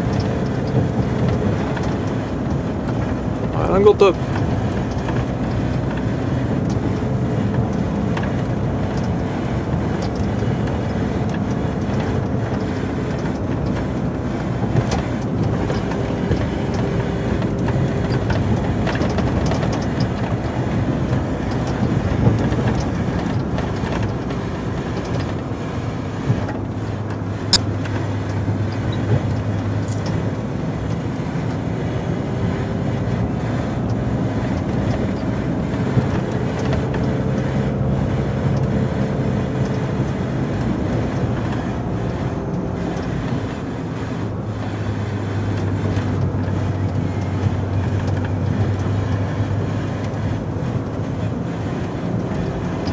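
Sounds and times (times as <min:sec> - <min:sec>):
diesel truck engine running: 0:00.0 - 0:52.9
truck driving over snow: 0:00.0 - 0:52.9.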